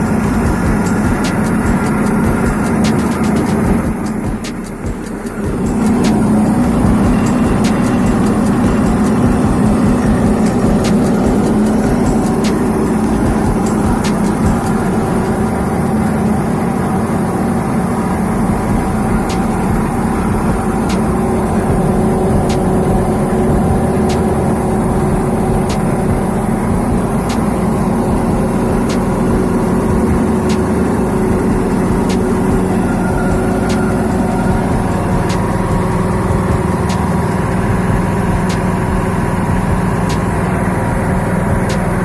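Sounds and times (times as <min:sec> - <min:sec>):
petrol engine running: 0:00.0 - 0:42.0.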